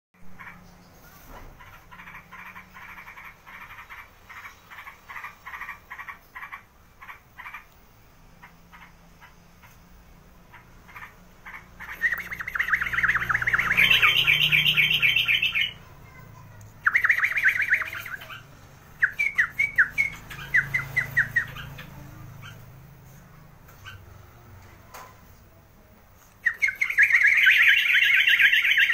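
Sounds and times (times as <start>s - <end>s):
bird chirping and chattering: 0.2s - 24.4s, 26.3s - 28.9s.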